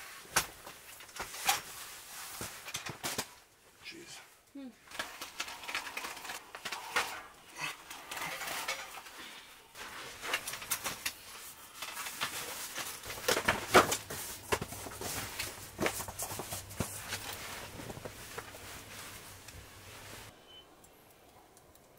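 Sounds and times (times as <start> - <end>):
wood fire crackling: 0.0 - 21.9.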